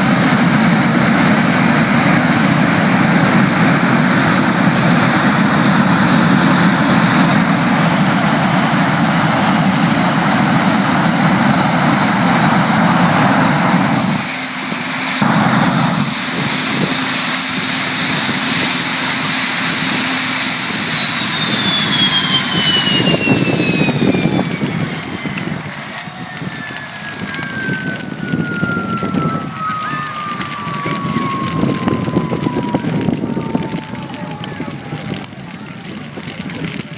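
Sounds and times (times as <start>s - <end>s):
jet engine rushing with high whine: 0.0s - 36.9s.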